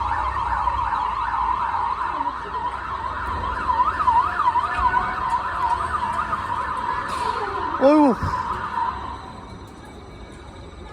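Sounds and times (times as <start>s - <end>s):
emergency sirens yelping: 0.0s - 9.5s.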